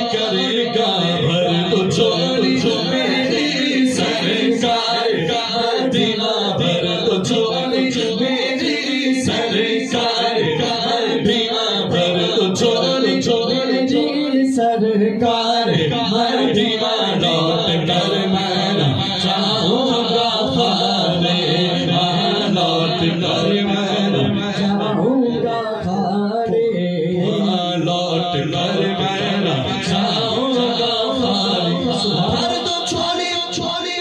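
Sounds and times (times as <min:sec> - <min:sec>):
man singing into a microphone: 0:00.0 - 0:34.0.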